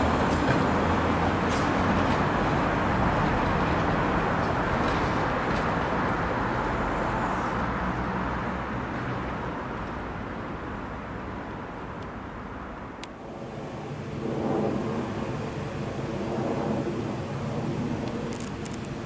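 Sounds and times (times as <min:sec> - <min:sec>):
tram rumbling along track: 0:00.0 - 0:19.0.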